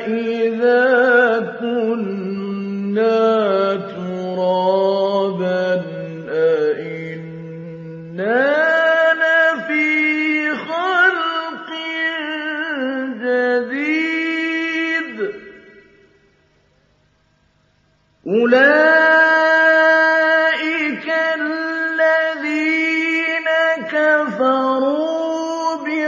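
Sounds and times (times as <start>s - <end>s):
man chanting melodically: 0.0s - 16.2s, 18.2s - 26.0s.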